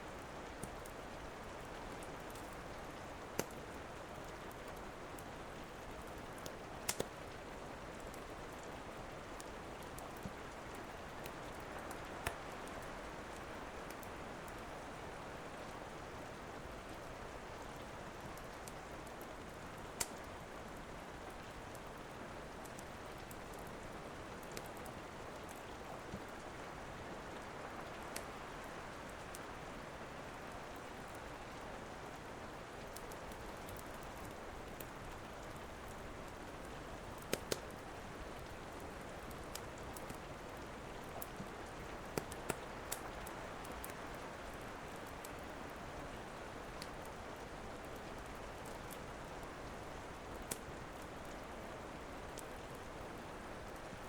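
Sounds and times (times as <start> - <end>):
steady rain: 0.0 - 54.0
wood fire popping and crackling: 0.1 - 54.0.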